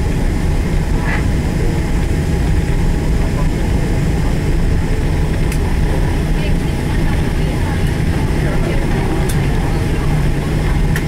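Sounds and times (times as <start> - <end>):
airliner cabin low rumble: 0.0 - 11.0.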